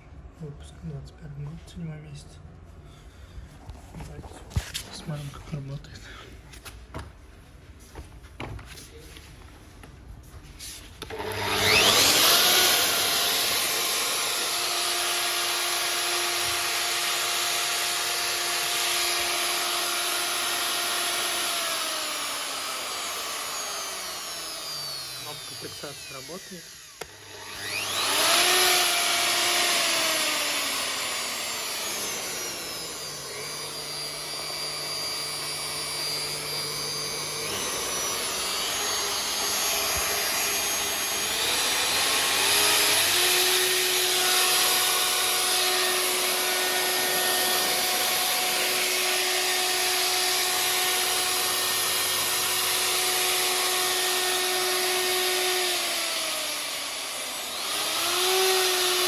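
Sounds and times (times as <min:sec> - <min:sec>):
router motor whine: 0:11.0 - 0:59.0.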